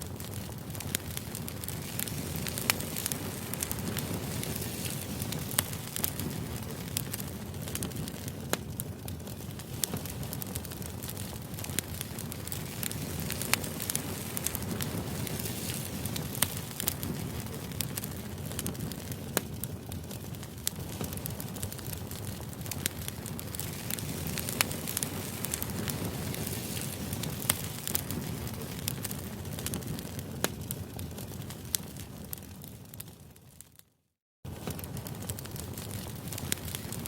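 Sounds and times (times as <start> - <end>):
fire low rush: 0.0 - 32.4
fire crackling and popping: 0.0 - 33.9, 34.5 - 37.0.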